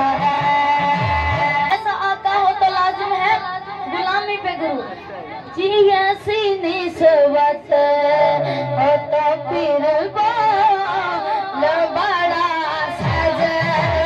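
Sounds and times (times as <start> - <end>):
boy singing into a microphone: 0.0 - 4.9, 5.5 - 14.0.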